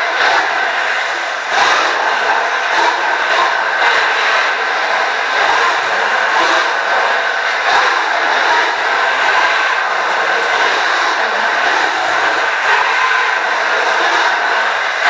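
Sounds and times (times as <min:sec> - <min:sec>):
electric drive motors whining: 0:00.0 - 0:15.0.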